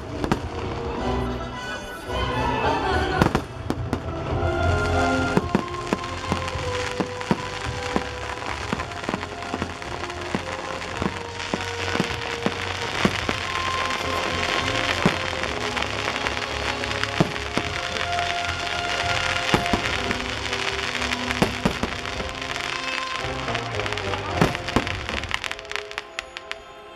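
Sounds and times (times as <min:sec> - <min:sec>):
fireworks bangs: 0:00.0 - 0:01.2, 0:02.4 - 0:26.8
fireworks crackling: 0:00.0 - 0:26.9
show music: 0:00.0 - 0:26.9.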